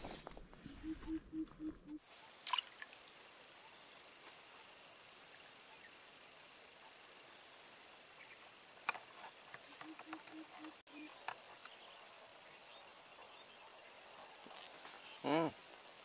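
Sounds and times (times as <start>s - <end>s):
high-pitched insect chorus buzzing: 0.6s - 16.0s.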